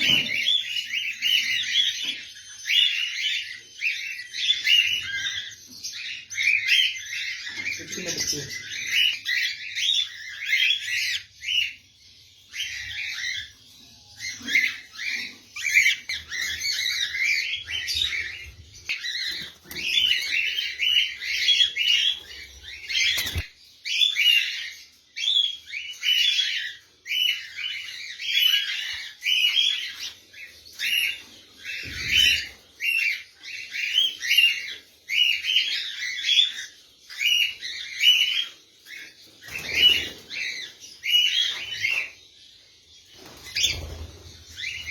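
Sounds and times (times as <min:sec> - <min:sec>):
caged birds chirping: 0:00.0 - 0:44.9.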